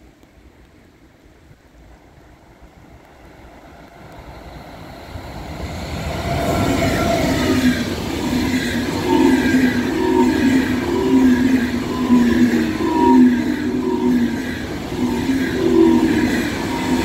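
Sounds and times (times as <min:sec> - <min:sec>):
train rushing rumble: 0:01.9 - 0:17.0
train whining tones: 0:02.0 - 0:17.0.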